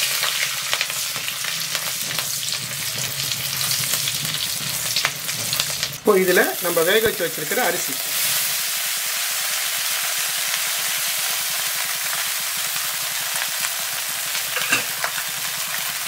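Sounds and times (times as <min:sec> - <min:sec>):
oil sizzling in pan: 0:00.0 - 0:16.0.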